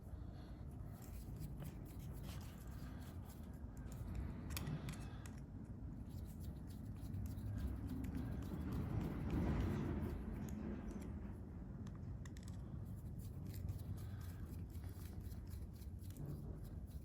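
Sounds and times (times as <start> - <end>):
small parts and tools clicking: 0.9 - 11.1, 11.8 - 17.0.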